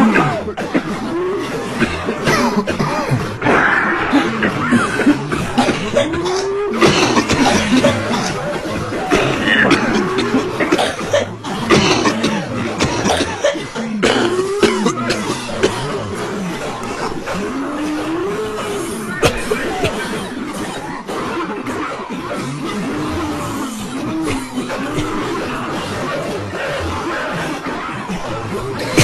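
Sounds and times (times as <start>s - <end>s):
crowd coughing: 0.0s - 29.0s
voices: 0.0s - 29.0s.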